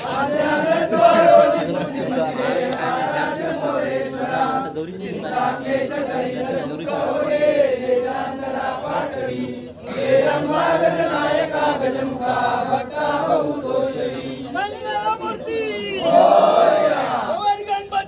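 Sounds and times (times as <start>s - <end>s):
crowd chanting a prayer: 0.0s - 18.0s.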